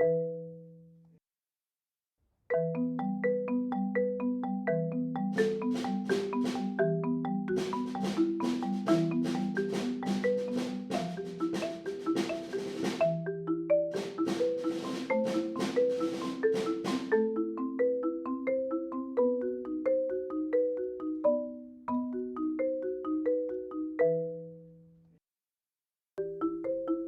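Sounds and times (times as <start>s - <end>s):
marimba played with mallets: 0.0s - 0.8s, 2.5s - 24.8s, 26.2s - 27.0s.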